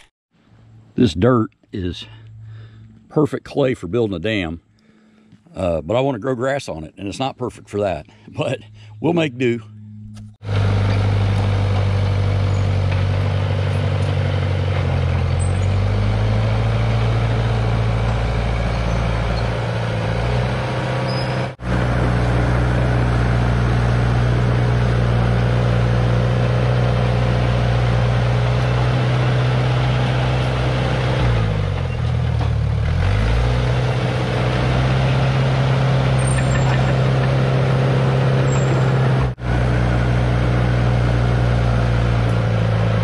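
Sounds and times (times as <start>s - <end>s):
bulldozer diesel engine droning: 0.0s - 5.9s, 7.1s - 43.0s.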